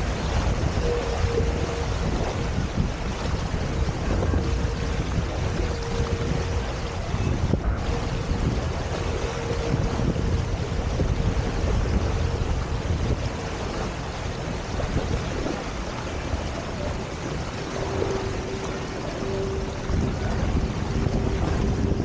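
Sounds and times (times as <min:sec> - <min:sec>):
water rushing along hulls: 0:00.0 - 0:22.0
wind buffeting microphone: 0:00.0 - 0:22.0.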